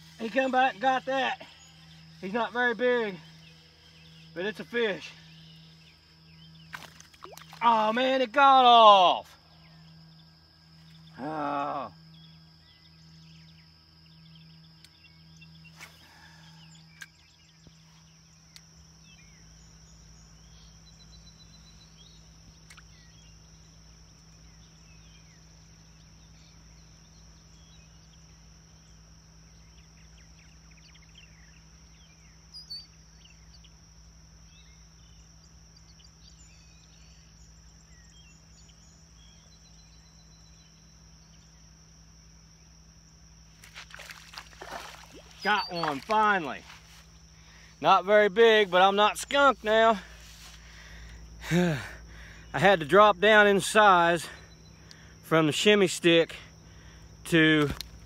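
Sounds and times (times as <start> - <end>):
birds chirping: 0.0 - 58.0
high insect drone: 0.0 - 58.0.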